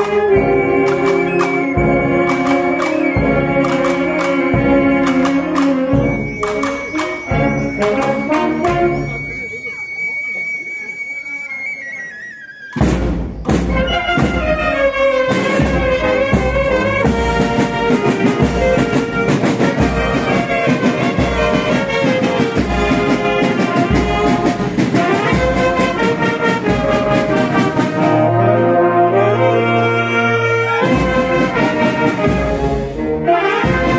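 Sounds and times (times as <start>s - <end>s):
percussion beat: 0.0s - 9.8s, 12.7s - 28.2s, 30.8s - 33.9s
brass band playing: 0.0s - 10.5s, 11.9s - 33.9s.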